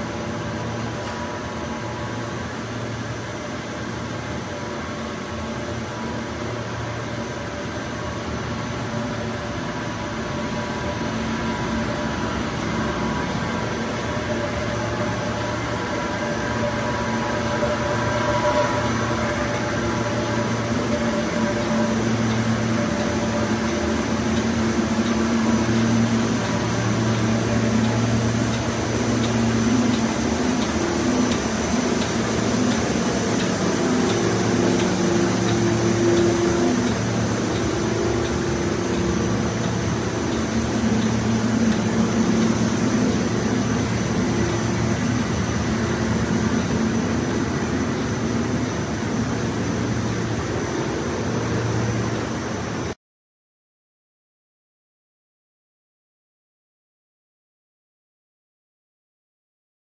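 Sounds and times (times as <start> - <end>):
industrial furnace and fans drone: 0.0 - 53.0.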